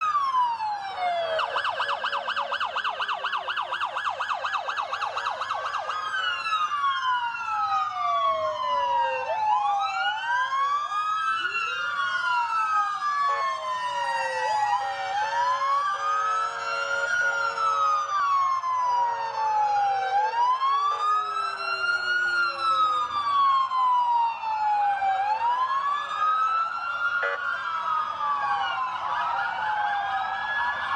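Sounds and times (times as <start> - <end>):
emergency sirens wailing: 0.0 - 30.9
siren fast yelp: 0.0 - 30.9.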